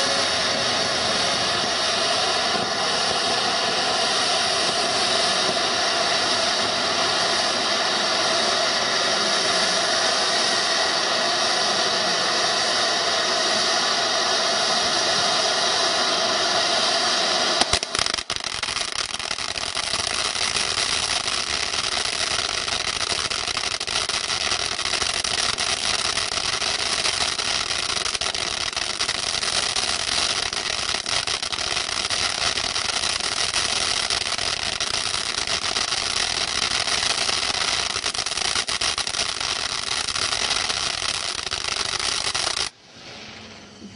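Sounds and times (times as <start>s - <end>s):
firework crackling: 0.0s - 43.6s
firework fountain hissing: 0.0s - 43.9s.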